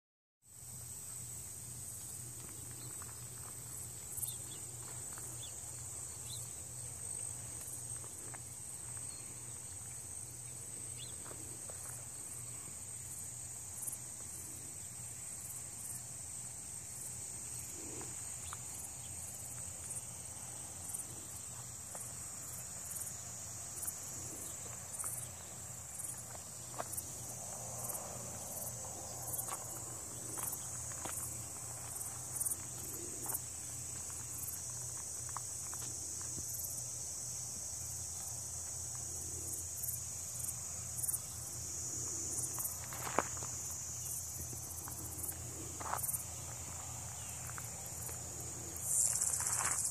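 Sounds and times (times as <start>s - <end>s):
insects chorus: 0.5s - 49.9s.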